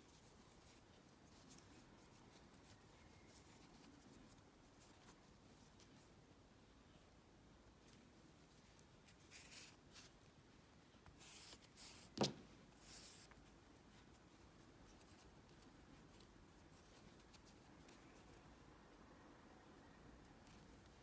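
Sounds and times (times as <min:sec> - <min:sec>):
yarn rustling and brushing: 0:00.0 - 0:07.0, 0:07.7 - 0:18.6.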